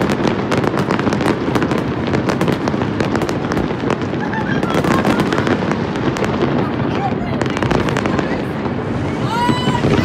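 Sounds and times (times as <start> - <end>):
fireworks booming: 0.0 - 10.0
fireworks crackling: 0.0 - 10.0.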